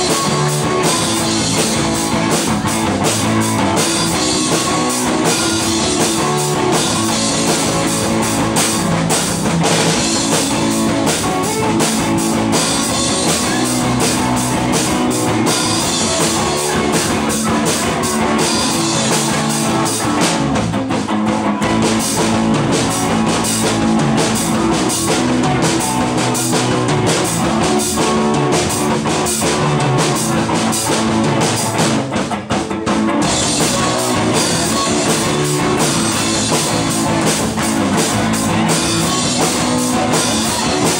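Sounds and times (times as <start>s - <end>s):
drum kit: 0.0s - 40.9s
electric guitar: 0.0s - 40.9s
live rock band playing: 0.0s - 40.9s.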